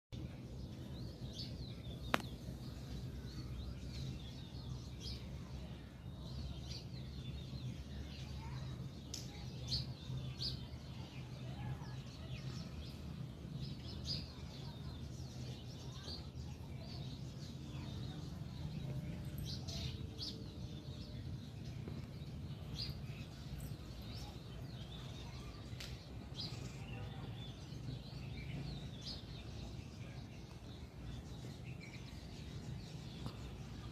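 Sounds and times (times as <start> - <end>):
sparrows chirping: 0.2 - 33.9.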